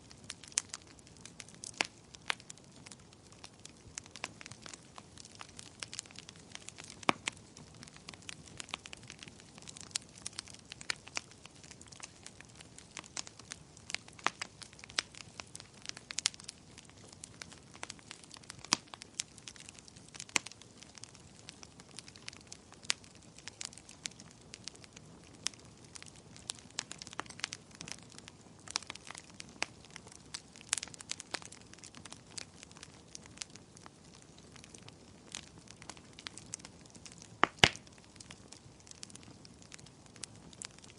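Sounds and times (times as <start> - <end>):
fireplace fire crackling: 0.0 - 40.9.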